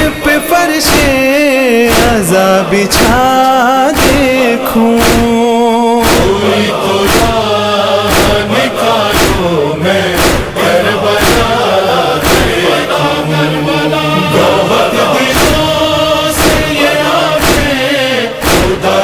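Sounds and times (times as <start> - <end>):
men chanting a lament: 0.0 - 19.0
steady percussive beat: 0.9 - 13.2, 14.2 - 19.0.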